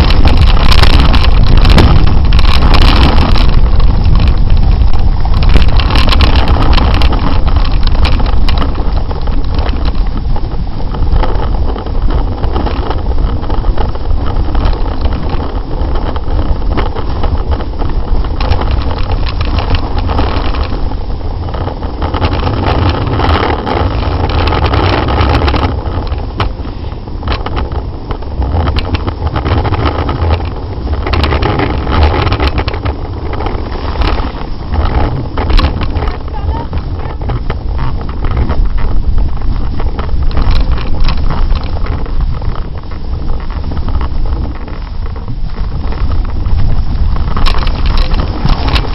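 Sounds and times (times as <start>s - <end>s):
snowboard scraping over snow: 0.0s - 48.9s
wind buffeting microphone: 0.0s - 48.9s.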